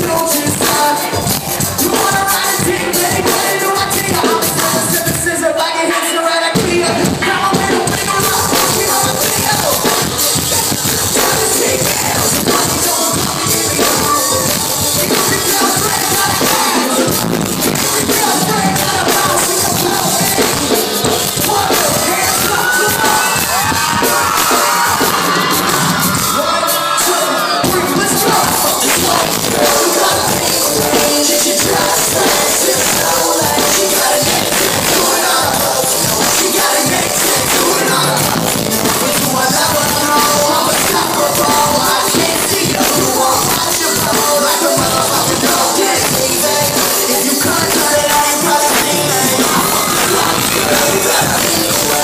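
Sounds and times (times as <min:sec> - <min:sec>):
crowd cheering: 0:00.0 - 0:52.0
loud live music: 0:00.0 - 0:52.0
person singing: 0:00.0 - 0:52.0.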